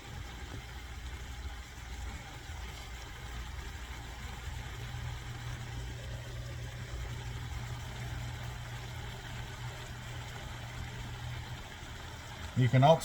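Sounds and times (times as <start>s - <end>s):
steady low hum: 0.0s - 13.0s
stir fry simmering in a pan: 0.0s - 13.0s.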